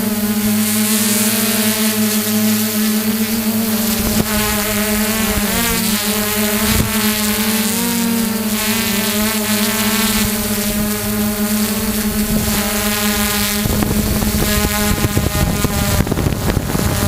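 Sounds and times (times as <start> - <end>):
drone motors buzzing: 0.0 - 17.0
wind hiss on microphone: 0.0 - 17.0.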